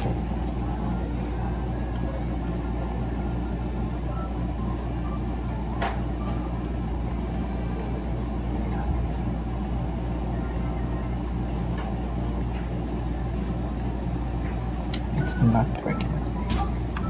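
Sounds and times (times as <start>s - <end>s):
low background rumble and hum: 0.0s - 17.0s.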